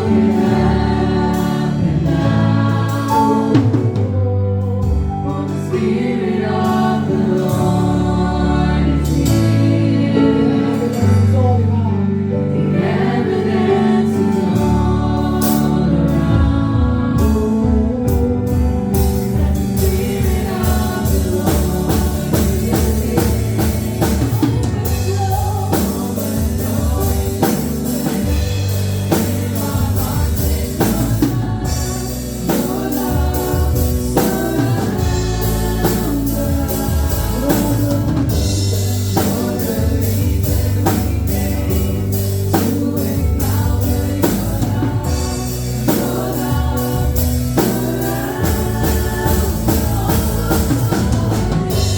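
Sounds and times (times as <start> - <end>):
band with drum kit: 0.0 - 51.9
people singing: 0.0 - 51.9.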